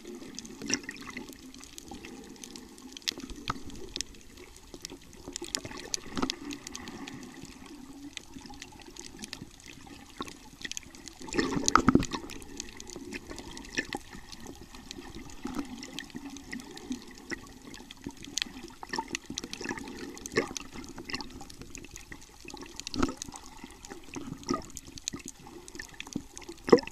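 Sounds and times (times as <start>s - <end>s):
muffled underwater water movement: 0.0s - 26.9s
underwater clicks and crackles: 0.0s - 26.9s
water swishes: 0.0s - 26.9s.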